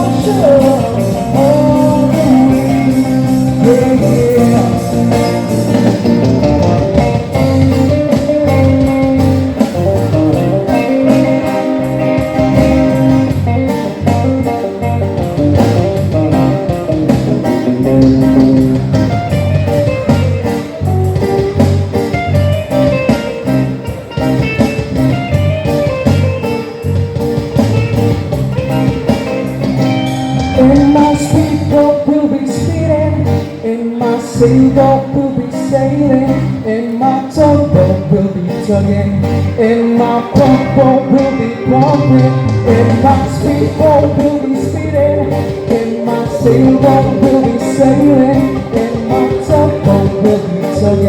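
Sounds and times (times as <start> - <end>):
rock band playing: 0.0 - 51.0.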